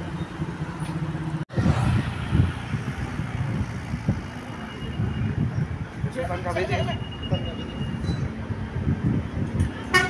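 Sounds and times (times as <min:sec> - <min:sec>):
road traffic engines rumbling: 0:00.0 - 0:10.0.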